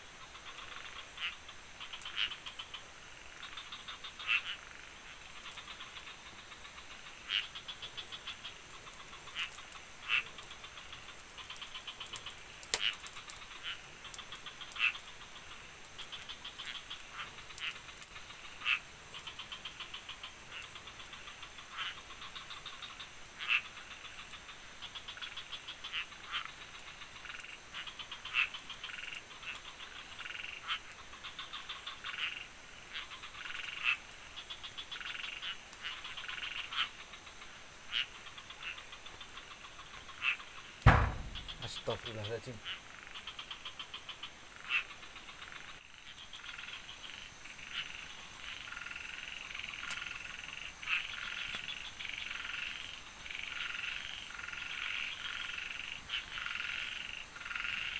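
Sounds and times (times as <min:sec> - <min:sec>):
frogs calling in chorus: 0:00.2 - 0:57.9.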